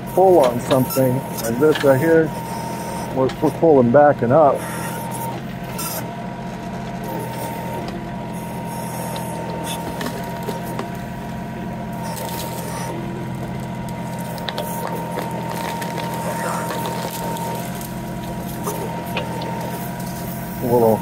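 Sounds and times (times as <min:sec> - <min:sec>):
hydraulic whine: 0:00.0 - 0:21.0
tractor diesel engine running: 0:00.0 - 0:21.0.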